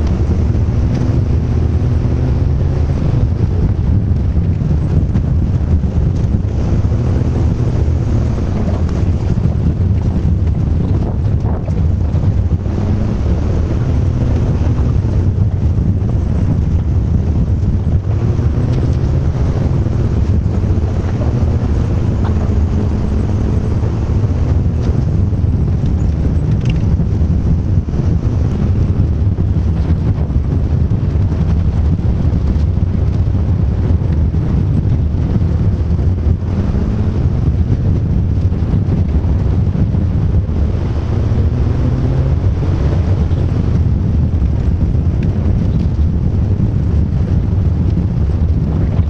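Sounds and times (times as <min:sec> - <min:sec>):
road and wind noise: 0:00.0 - 0:49.0
vehicle engine droning: 0:00.0 - 0:49.0.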